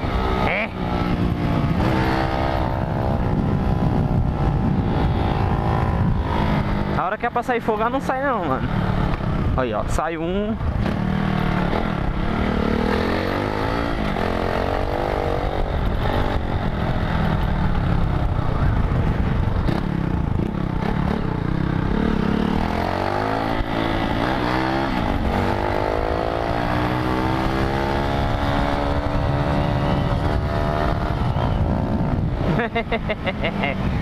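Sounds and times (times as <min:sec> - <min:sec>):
motorcycle engine revving: 0:00.0 - 0:34.0
wind rumble on microphone: 0:00.0 - 0:34.0.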